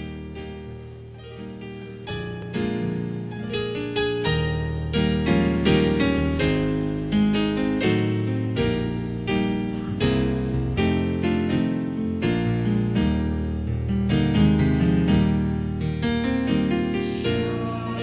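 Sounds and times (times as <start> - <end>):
keyboard playing slow chords: 0.0 - 18.0.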